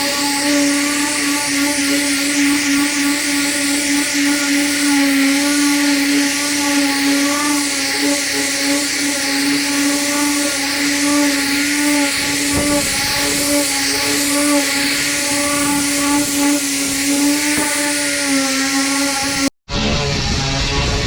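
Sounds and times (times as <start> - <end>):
motor humming: 0.0 - 19.6.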